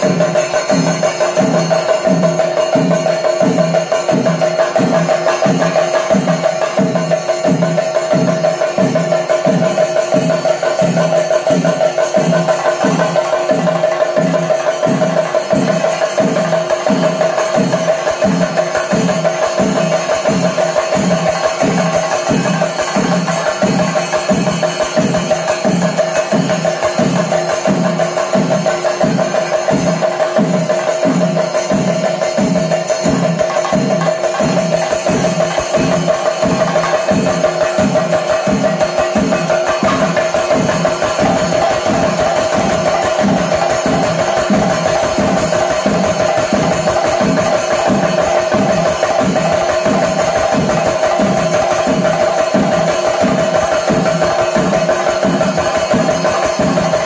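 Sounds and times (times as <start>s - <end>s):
drums rolling: 0.0s - 57.0s.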